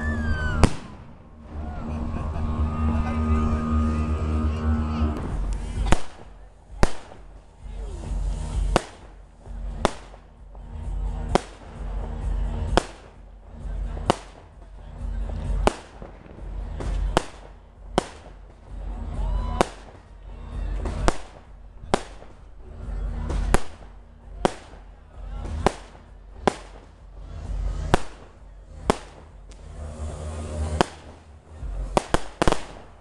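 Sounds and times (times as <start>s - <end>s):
fireworks bangs: 0.0s - 33.0s
low rumbling: 0.0s - 33.0s.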